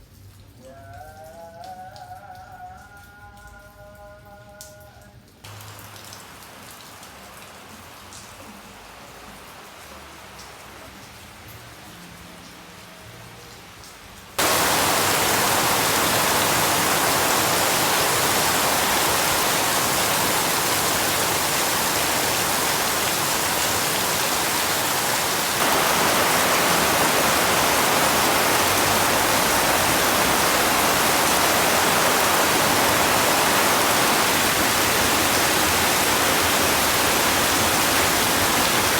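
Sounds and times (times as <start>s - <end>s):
heavy rain pouring: 5.5s - 38.9s.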